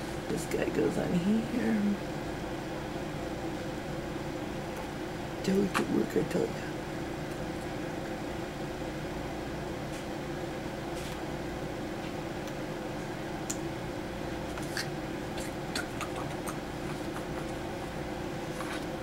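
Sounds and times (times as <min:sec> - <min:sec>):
steady room hum: 0:00.0 - 0:19.0.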